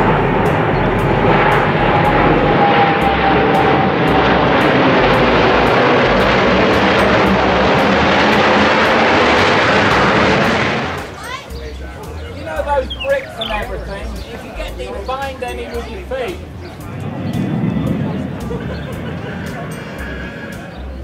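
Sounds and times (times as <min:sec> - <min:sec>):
jets passing overhead: 0:00.0 - 0:21.0.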